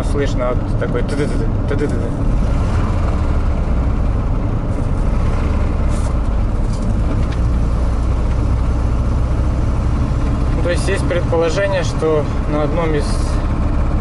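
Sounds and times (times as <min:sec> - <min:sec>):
petrol engine running: 0:00.0 - 0:14.0.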